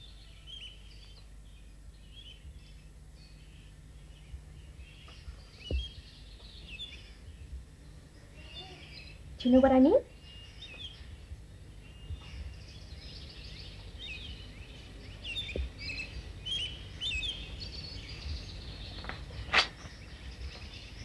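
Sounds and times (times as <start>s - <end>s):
birds chirping and calling: 0.0s - 21.0s
low steady background rumble: 0.0s - 21.0s.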